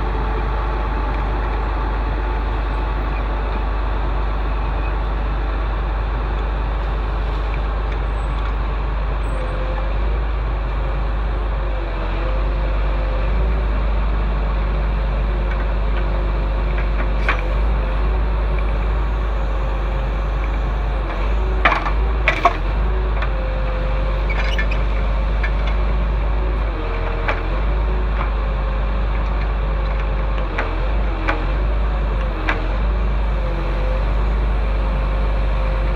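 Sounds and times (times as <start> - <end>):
heavy vehicle engine rumbling: 0.0 - 35.9.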